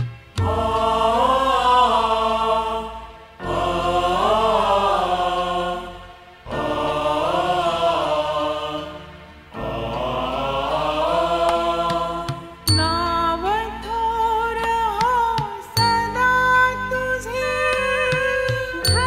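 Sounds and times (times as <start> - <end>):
devotional hymn music: 0.0 - 19.0.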